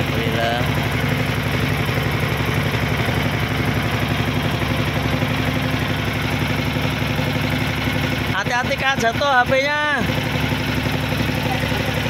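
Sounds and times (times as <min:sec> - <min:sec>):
boat engine pulsing: 0:00.0 - 0:12.0.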